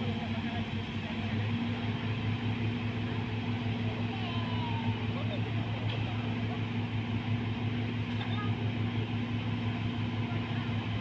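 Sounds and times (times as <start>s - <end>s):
excavator diesel engines droning: 0.0s - 11.0s.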